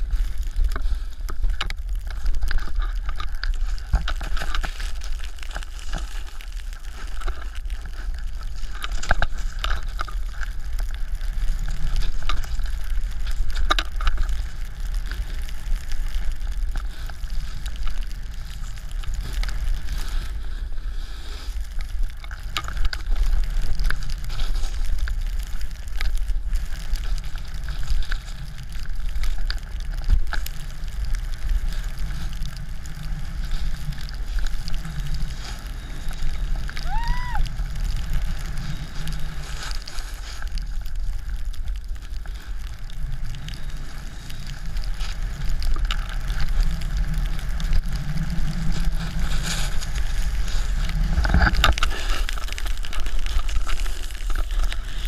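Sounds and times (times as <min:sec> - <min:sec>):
snowboard scraping over snow: 0:00.0 - 0:55.0.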